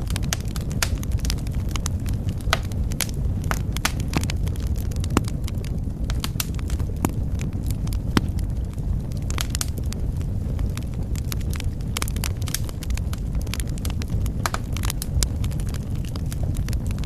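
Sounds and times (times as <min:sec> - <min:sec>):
low rush of flame: 0:00.0 - 0:17.0
wood fire crackling and popping: 0:00.0 - 0:17.0.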